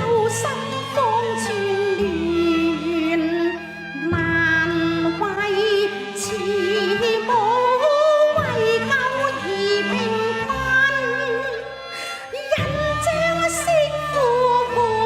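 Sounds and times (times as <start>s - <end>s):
chinese opera instrumental music: 0.0s - 15.0s.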